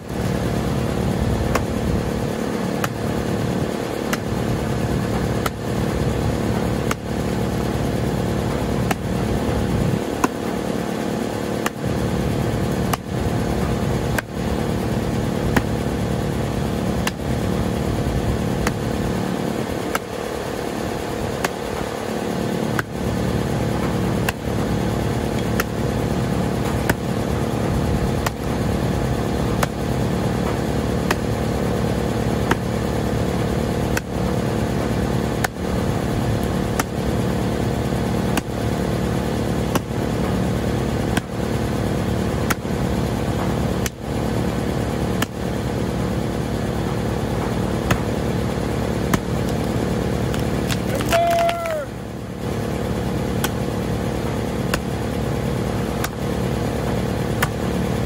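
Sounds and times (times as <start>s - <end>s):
engine droning: 0.0s - 58.0s
axe chopping tree trunk: 0.7s - 45.6s, 46.7s - 51.8s, 53.2s - 55.1s, 55.8s - 57.9s.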